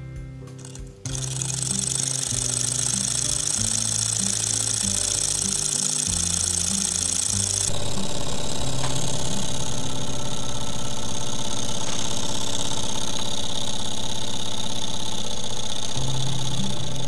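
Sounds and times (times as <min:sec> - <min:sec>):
stirling engine ticking: 0:00.6 - 0:17.0.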